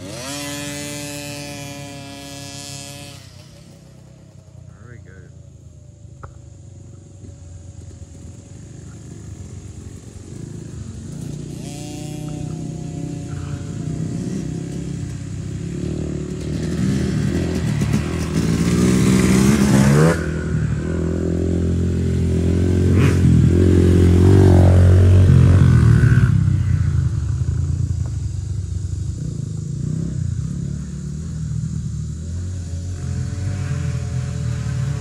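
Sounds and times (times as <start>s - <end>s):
dirt bike engine revving: 0.0s - 5.3s, 7.0s - 35.0s.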